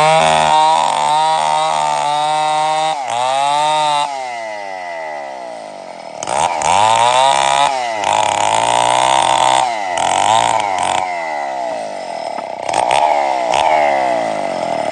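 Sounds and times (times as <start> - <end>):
chainsaw revving: 0.0 - 14.9.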